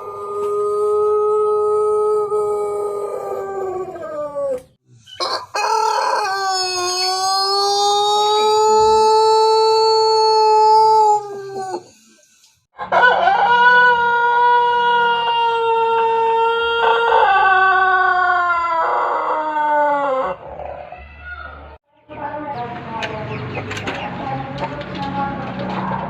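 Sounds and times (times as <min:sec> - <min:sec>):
roosters crowing: 0:00.0 - 0:11.9, 0:12.8 - 0:21.8.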